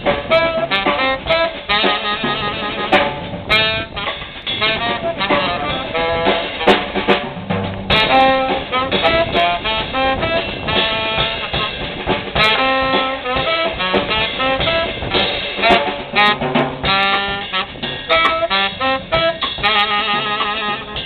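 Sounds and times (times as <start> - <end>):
tenor saxophone: 0.0 - 7.2, 7.9 - 21.0
drum kit with cymbals: 0.0 - 21.0
upright bass: 0.0 - 21.0.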